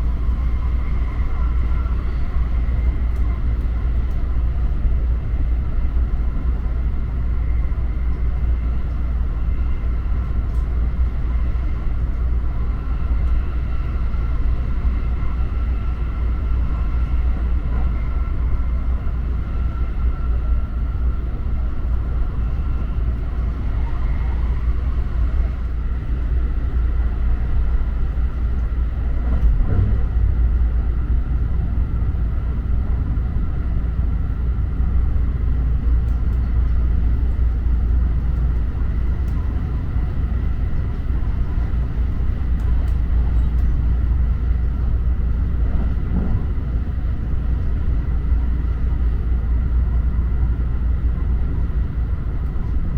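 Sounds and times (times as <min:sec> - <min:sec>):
electric train rumble: 0:00.0 - 0:52.9.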